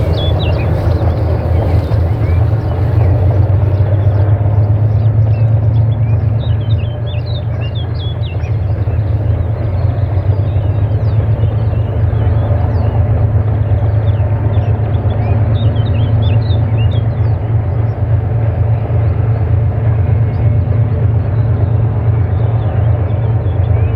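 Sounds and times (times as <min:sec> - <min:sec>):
birds chirping: 0:00.0 - 0:23.9
diesel locomotive engine drone: 0:00.0 - 0:23.9.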